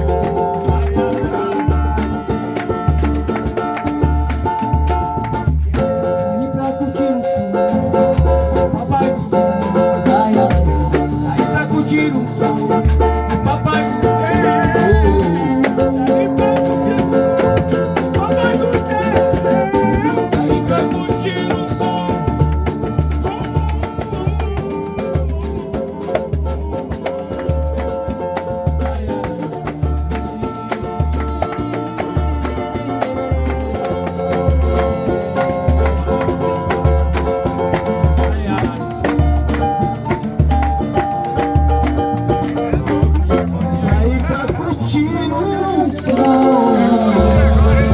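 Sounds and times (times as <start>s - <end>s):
drum beat: 0.0s - 47.9s
rattling shaker: 0.0s - 47.9s
samba music: 0.0s - 47.9s.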